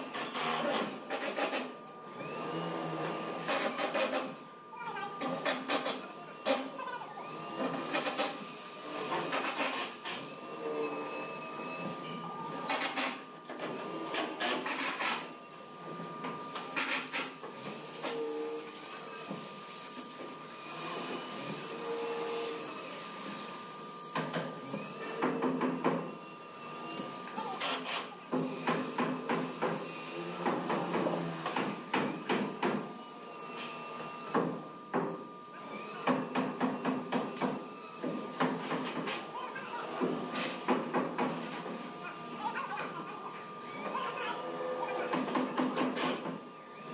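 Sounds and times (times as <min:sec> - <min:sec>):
machine hum with whine: 0:00.0 - 0:46.9.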